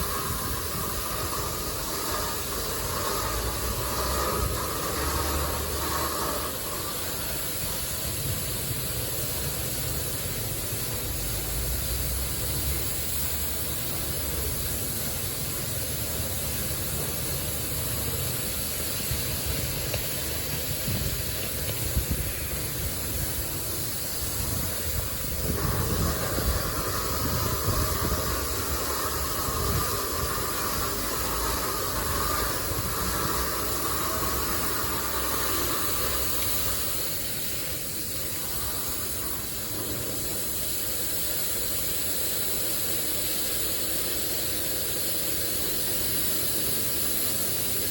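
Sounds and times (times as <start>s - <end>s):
high-pressure water spraying: 0.0s - 47.9s
higher hiss: 0.0s - 47.9s.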